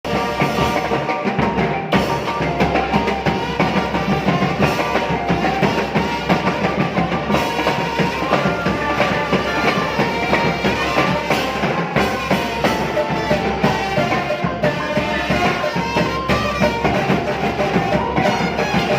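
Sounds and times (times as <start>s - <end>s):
brass band playing: 0.0s - 18.9s
steady drum beat: 0.1s - 18.9s.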